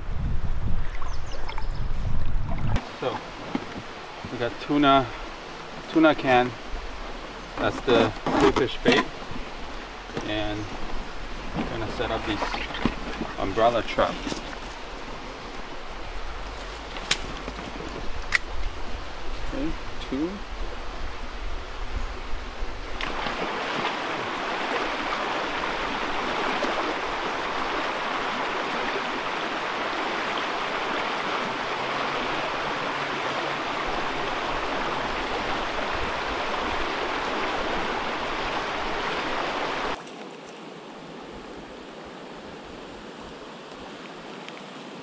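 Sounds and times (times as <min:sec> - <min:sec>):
creek water running over rocks: 0:00.6 - 0:45.0.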